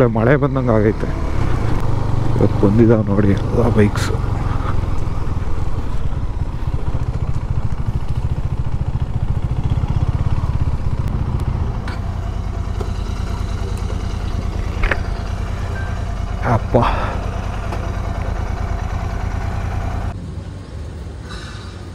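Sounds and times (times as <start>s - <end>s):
motorcycle engine idling: 0.0s - 20.2s.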